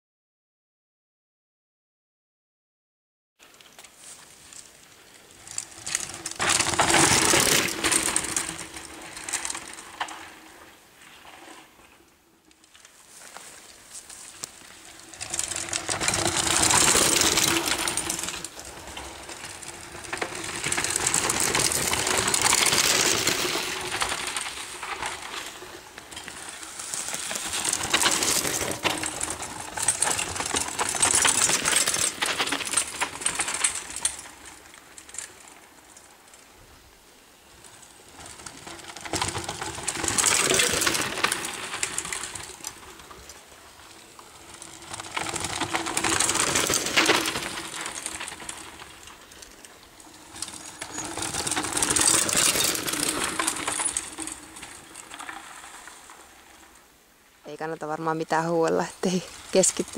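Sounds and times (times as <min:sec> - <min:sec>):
bike tyres on dirt trail: 0:03.4 - 0:59.9.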